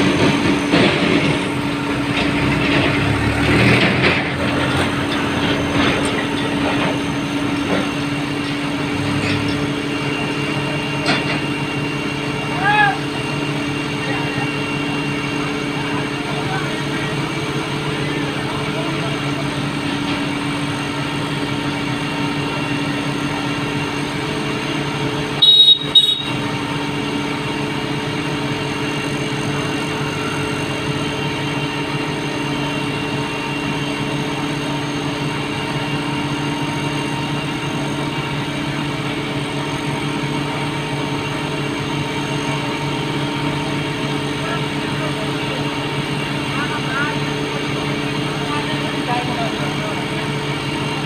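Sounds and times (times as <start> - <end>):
engine humming: 0.0 - 51.0.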